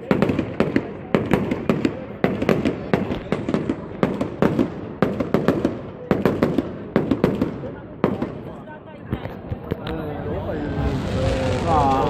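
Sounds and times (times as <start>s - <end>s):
fireworks bangs: 0.0s - 8.6s, 10.4s - 12.0s.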